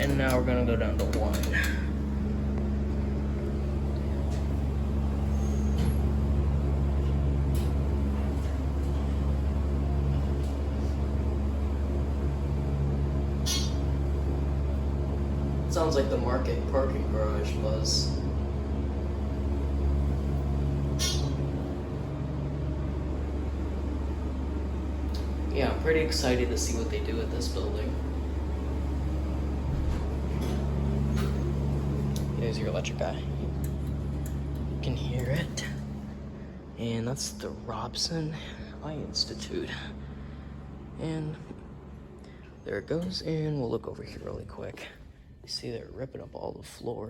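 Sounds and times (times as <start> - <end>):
elevator humming: 0.0 - 47.0.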